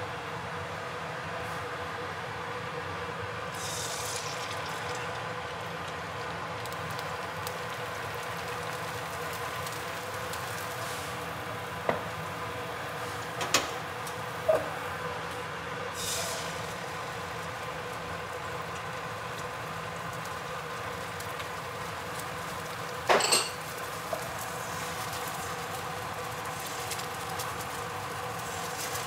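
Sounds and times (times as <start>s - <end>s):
steady background hum: 0.0s - 29.0s
eggs sizzling in hot oil: 3.5s - 29.0s.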